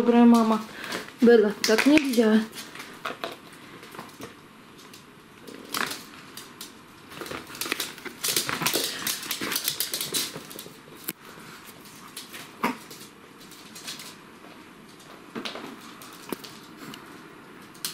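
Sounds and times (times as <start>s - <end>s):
puppies scuffling: 0.0s - 17.9s.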